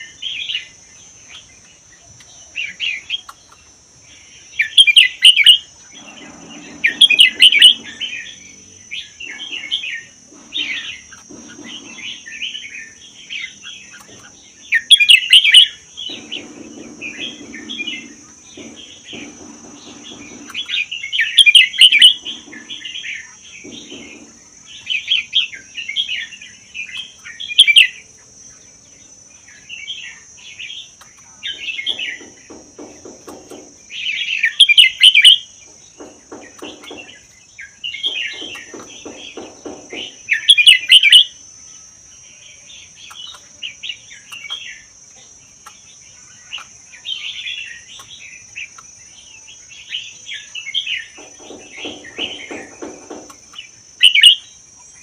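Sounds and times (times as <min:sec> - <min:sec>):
bird singing warbling phrases: 0:00.0 - 0:55.0
steady high-pitched whine: 0:00.0 - 0:55.0.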